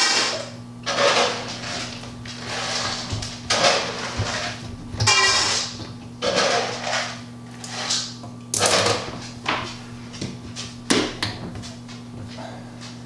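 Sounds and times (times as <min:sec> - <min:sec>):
parts clunking and scraping: 0:00.1 - 0:13.0.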